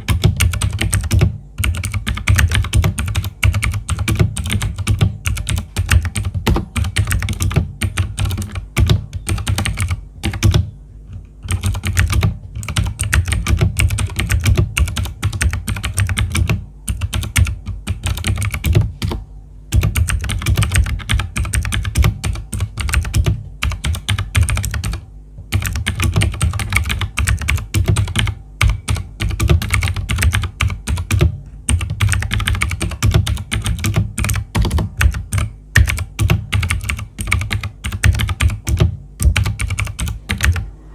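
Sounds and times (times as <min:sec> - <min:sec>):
clicky keyboard typing: 0:00.0 - 0:40.7.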